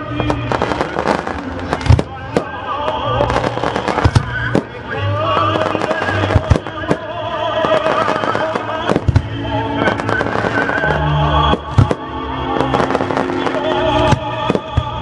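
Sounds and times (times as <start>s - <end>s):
fireworks bursting with sharp bangs: 0.0s - 15.0s
loud music with sustained notes: 0.0s - 15.0s.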